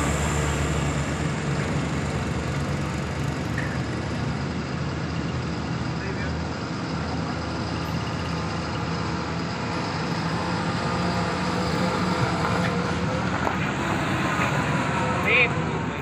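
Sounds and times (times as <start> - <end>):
truck diesel engine under load: 0.0 - 16.0.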